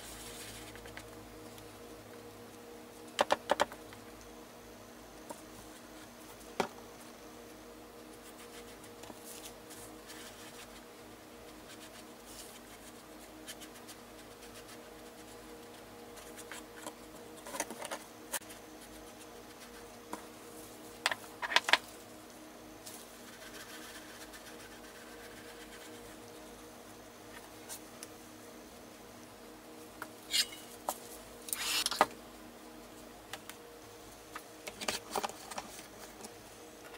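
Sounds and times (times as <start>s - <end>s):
low room hum: 0.0s - 36.9s.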